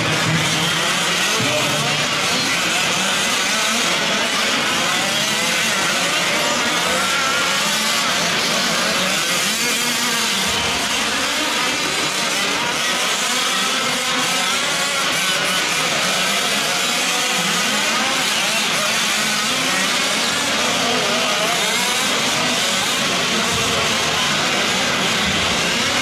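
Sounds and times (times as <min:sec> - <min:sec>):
small two-stroke engines revving: 0:00.0 - 0:26.0.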